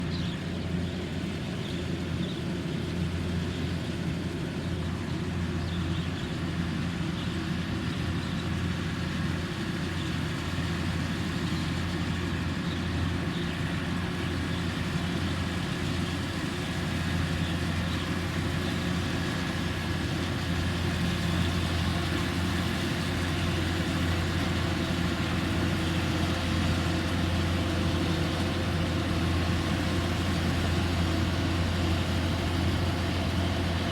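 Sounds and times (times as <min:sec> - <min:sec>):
harvester engine humming: 0:00.0 - 0:33.9.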